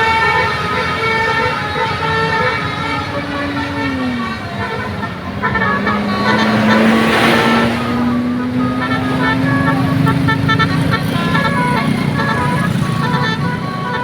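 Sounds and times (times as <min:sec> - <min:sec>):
engine running: 0:00.0 - 0:14.0
multi-tone musical horn melody: 0:00.0 - 0:14.0.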